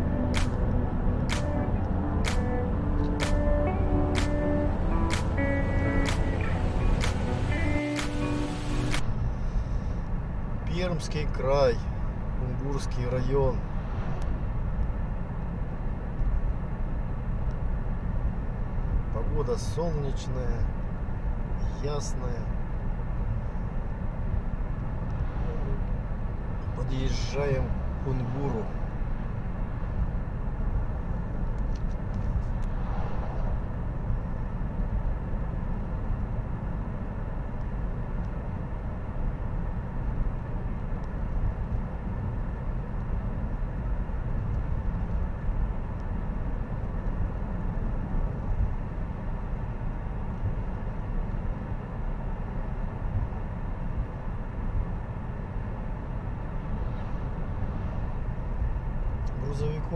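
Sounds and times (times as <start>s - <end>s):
car cabin road noise: 0.0s - 59.9s.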